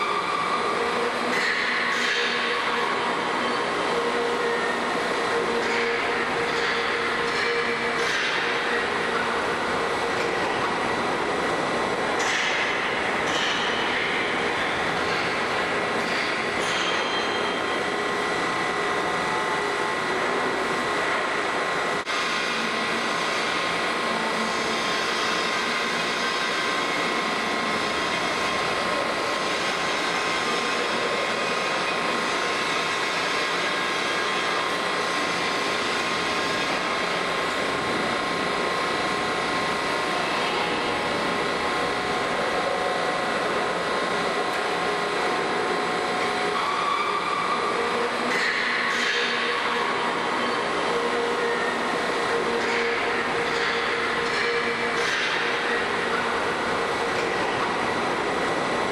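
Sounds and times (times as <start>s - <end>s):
plate rolling machine drone: 0.0s - 58.9s.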